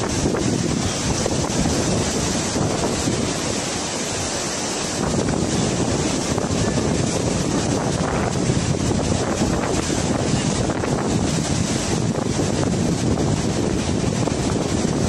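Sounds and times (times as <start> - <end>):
floodwater rushing: 0.0 - 15.0
wind buffeting microphone: 0.0 - 15.0.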